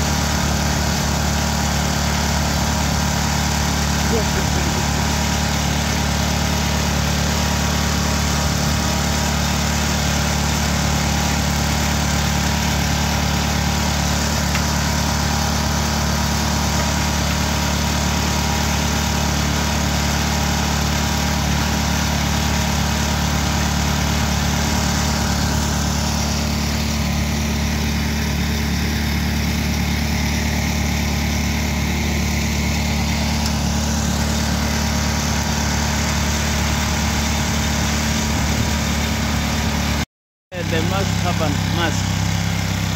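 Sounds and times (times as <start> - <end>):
grain mill machine drone: 0.0 - 42.9.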